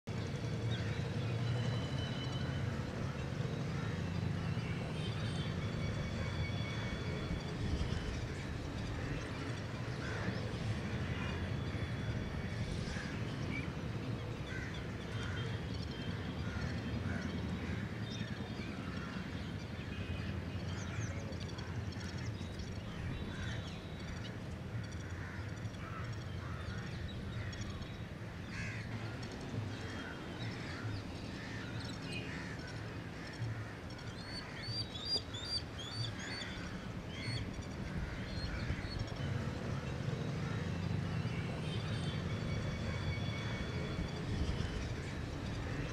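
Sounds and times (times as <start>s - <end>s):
gulls calling: 0.1s - 45.9s.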